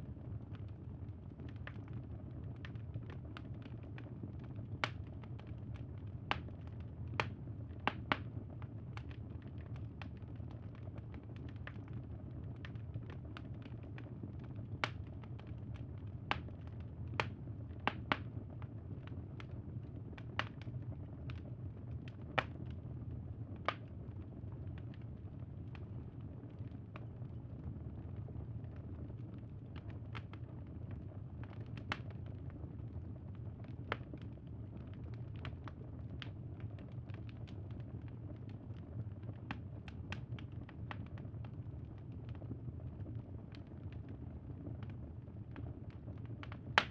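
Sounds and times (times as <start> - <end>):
wood fire crackling: 0.1 - 46.9.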